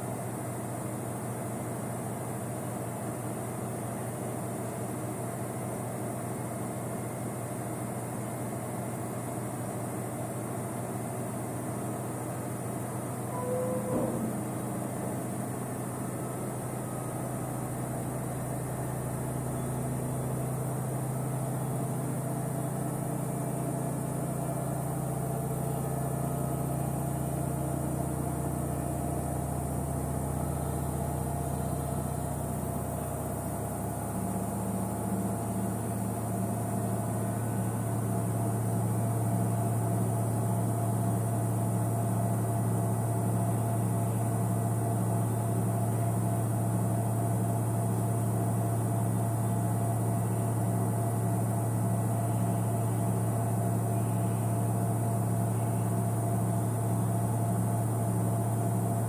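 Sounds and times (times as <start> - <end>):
washing machine motor hum: 5.2 - 59.0.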